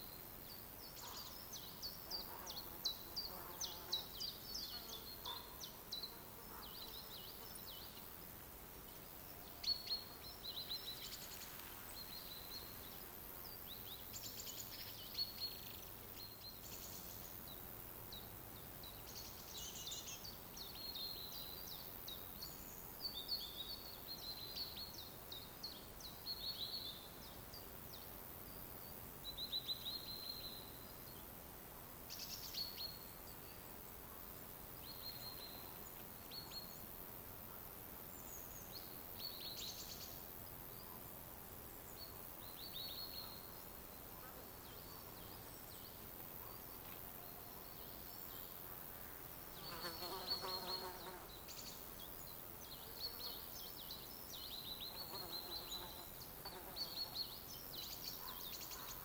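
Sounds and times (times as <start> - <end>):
faint forest background hiss: 0.0 - 59.0
songbirds chirping and trilling: 0.0 - 59.0.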